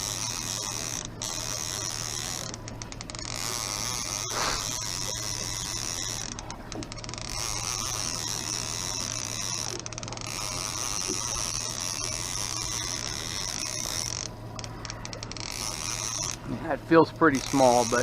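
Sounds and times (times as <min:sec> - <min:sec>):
fishing reel gears whirring and clicking: 0:00.0 - 0:18.0
low steady hum: 0:00.0 - 0:18.0.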